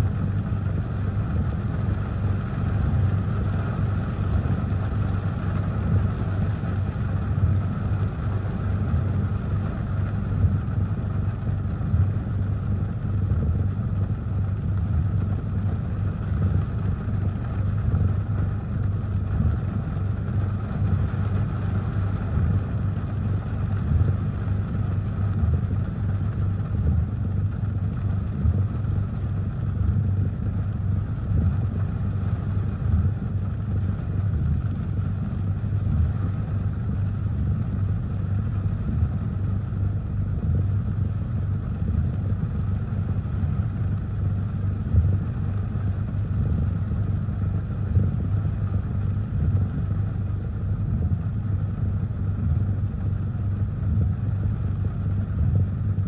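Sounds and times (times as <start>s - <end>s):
rain and wind on car: 0.0s - 56.0s.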